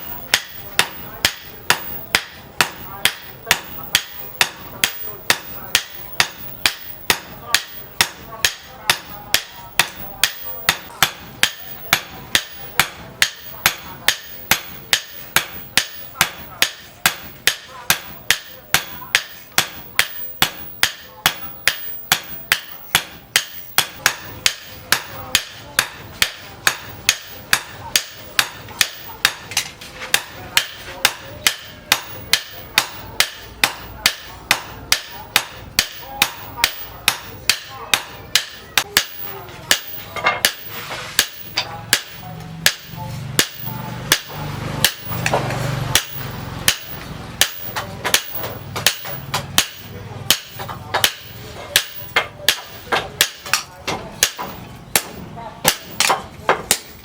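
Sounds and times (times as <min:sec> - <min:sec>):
hammer striking steel on anvil: 0:00.0 - 0:57.0.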